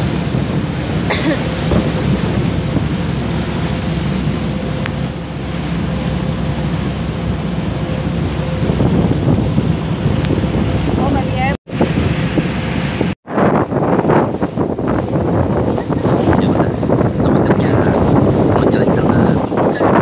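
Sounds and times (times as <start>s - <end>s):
water rushing past yacht: 0.0s - 20.0s
wind buffeting microphone: 0.0s - 20.0s.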